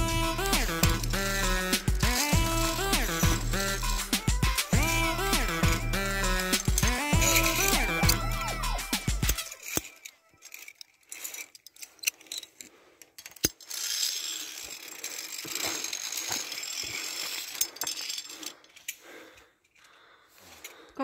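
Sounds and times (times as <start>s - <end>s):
carabiners clicking on steel cable: 0.0s - 21.0s.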